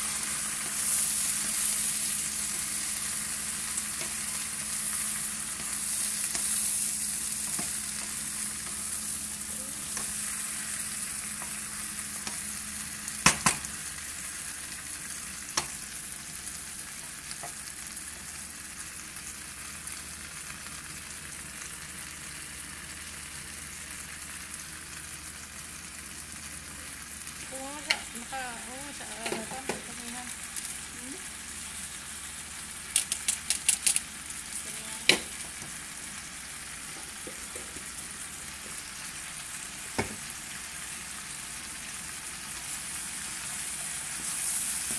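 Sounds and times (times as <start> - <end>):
shrimp sizzling in a frying pan: 0.0 - 44.9.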